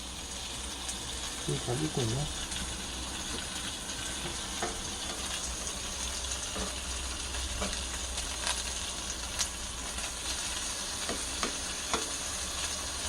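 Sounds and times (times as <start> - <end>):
cooking sizzling on a stove: 0.0 - 13.0.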